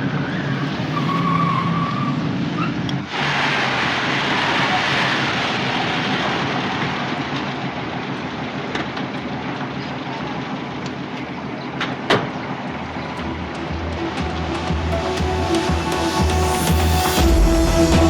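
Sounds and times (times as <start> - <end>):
vehicle running noise: 0.0 - 18.0.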